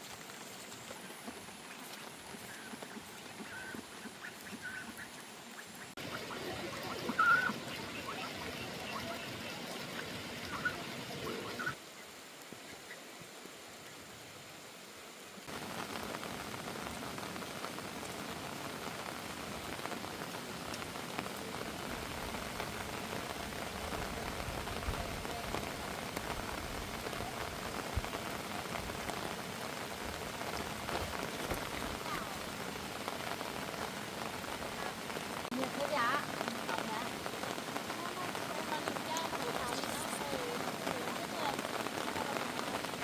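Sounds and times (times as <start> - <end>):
heavy rain pattering: 0.0 - 12.6, 15.4 - 43.0.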